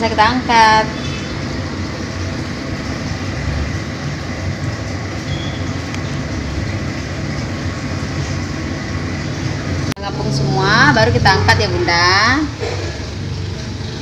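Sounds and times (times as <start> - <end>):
gas burner flame rumbling: 0.0 - 14.0.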